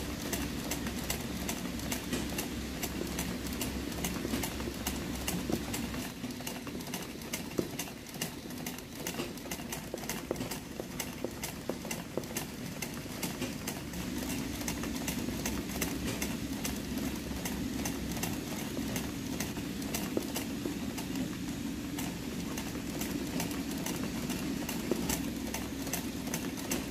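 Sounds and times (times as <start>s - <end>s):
sewing machine motor hum: 0.0s - 26.9s
sewing machine needle ticking: 0.1s - 26.9s.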